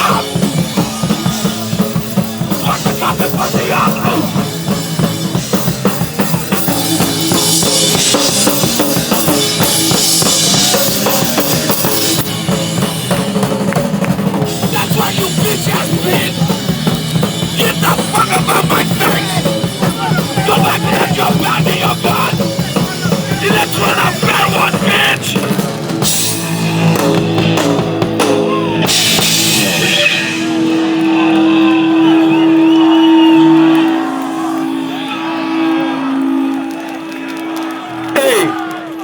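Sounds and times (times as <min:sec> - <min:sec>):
punk band playing live: 0:00.0 - 0:39.0.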